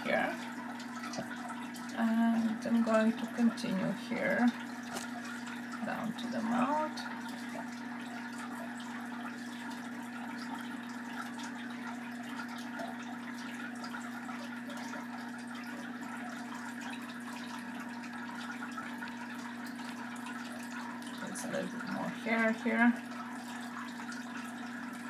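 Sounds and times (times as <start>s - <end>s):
low electrical hum and hiss: 0.0s - 25.0s.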